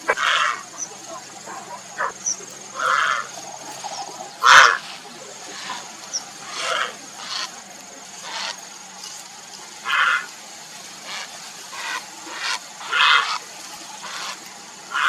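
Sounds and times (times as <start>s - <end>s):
heron croaking calls: 0.0s - 8.9s, 9.8s - 15.0s.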